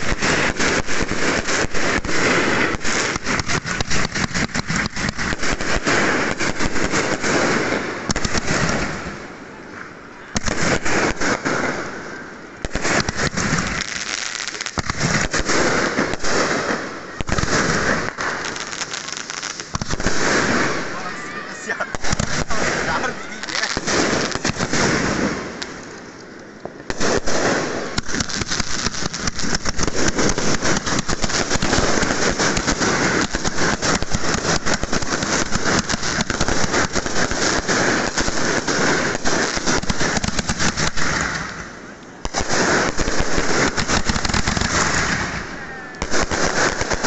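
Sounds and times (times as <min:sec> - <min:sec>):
fireworks crackling and banging: 0:00.0 - 0:47.0.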